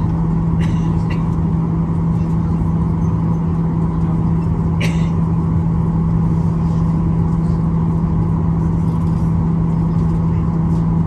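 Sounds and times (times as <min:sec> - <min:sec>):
jet engines droning in cabin: 0:00.0 - 0:11.0.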